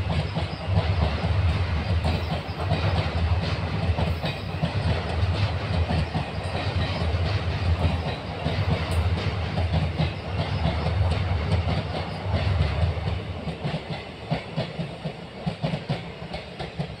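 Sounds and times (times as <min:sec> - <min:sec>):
train wheels clattering over rail joints: 0:00.0 - 0:17.0.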